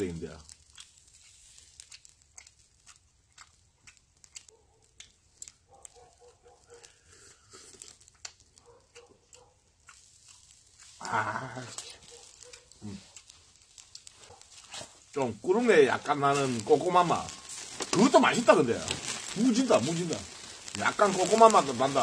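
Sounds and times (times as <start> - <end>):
chewing meat: 0.0 - 22.0
wood fire crackling: 0.0 - 22.0.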